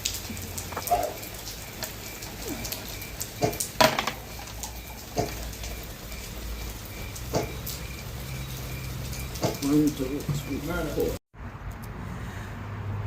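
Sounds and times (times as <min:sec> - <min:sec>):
raindrops plinking on hard surface: 0:00.0 - 0:11.2.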